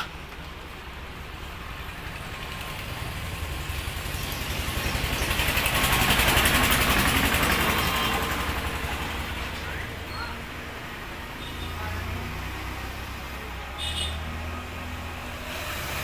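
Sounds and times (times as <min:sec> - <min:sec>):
vehicle engine passing: 0:01.3 - 0:16.0.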